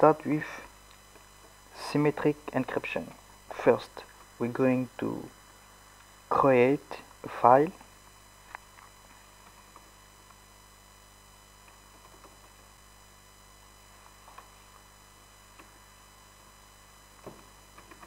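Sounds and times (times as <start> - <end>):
electrical hum and hiss: 0.0 - 18.0.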